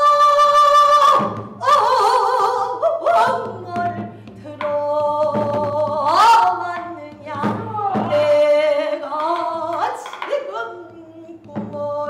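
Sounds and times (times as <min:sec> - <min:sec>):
woman singing with vibrato: 0:00.0 - 0:12.0
barrel drum strokes: 0:00.8 - 0:10.6.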